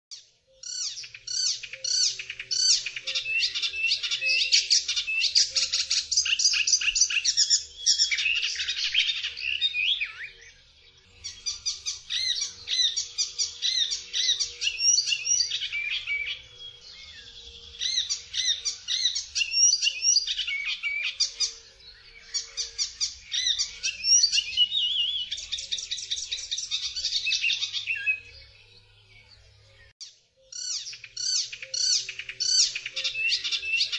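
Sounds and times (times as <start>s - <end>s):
warbler singing: 0.1s - 33.9s.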